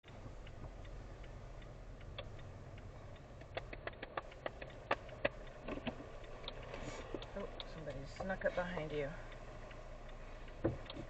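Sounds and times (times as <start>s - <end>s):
low steady car hum: 0.0s - 11.0s
small clicks: 0.0s - 11.0s.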